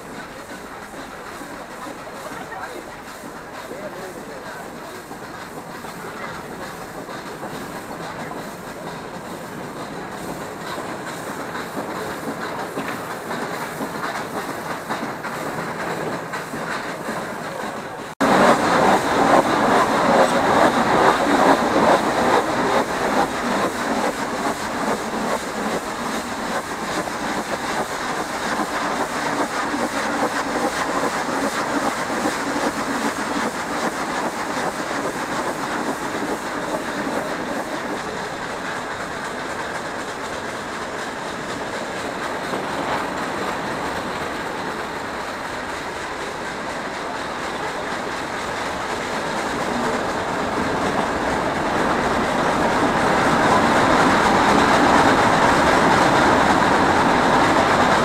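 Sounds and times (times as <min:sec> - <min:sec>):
train running along track: 0:00.0 - 0:58.0.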